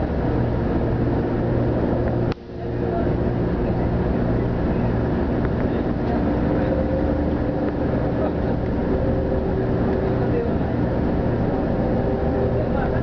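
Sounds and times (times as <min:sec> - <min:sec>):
train running at speed: 0:00.0 - 0:13.0.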